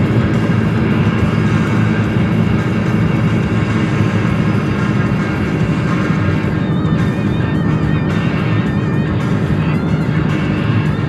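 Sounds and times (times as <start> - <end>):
car driving rumble: 0.0 - 11.0
music playing: 0.0 - 11.0.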